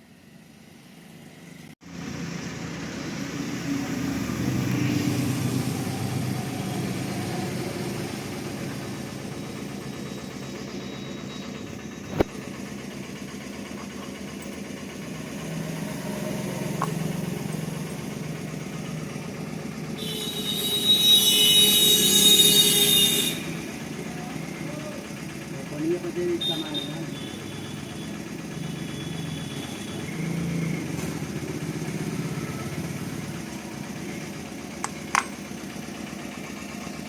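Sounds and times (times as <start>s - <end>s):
motorcycle engine idling: 1.9s - 37.0s.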